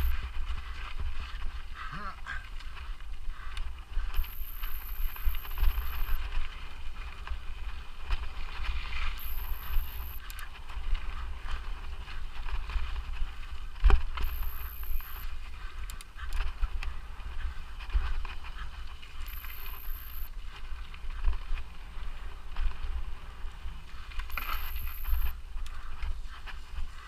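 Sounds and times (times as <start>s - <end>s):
bike rattles and clicks: 0.0s - 27.0s
bike tyre and trail noise: 0.0s - 27.0s
wind rumbling on microphone: 0.0s - 27.0s.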